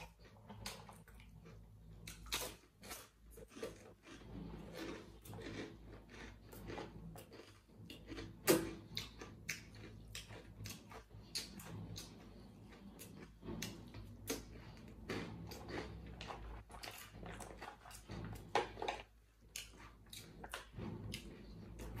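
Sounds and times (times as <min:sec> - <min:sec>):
chewing crunchy rusk: 0:00.0 - 0:22.0.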